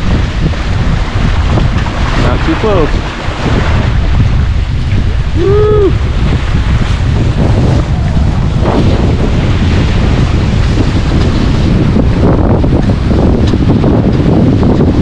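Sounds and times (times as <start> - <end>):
water splashing along hulls: 0.0 - 15.0
wind buffeting microphone: 0.0 - 15.0.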